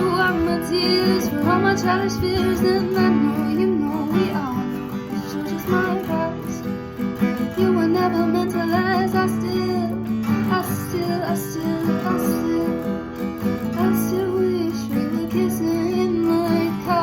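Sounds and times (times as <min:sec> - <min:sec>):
person singing wordless melody: 0:00.0 - 0:06.6, 0:07.4 - 0:17.0
acoustic guitar strumming: 0:00.0 - 0:17.0.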